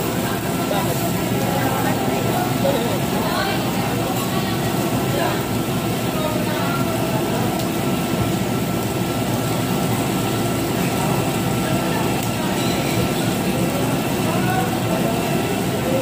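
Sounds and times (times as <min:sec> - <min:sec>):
exhaust duct rushing air: 0:00.0 - 0:16.0.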